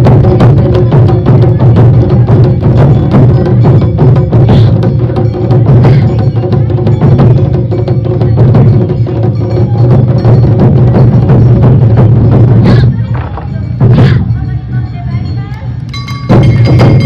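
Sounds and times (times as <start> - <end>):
clacking percussion: 0.0 - 17.0
drums beating: 0.0 - 17.0
festival band playing: 0.0 - 17.0.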